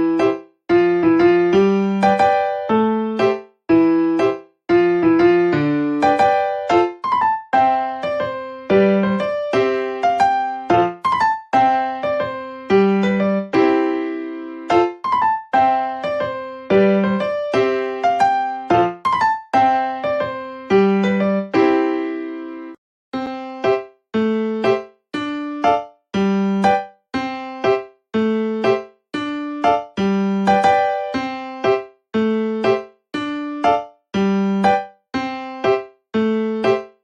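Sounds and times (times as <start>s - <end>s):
piano melody: 0.0s - 37.0s.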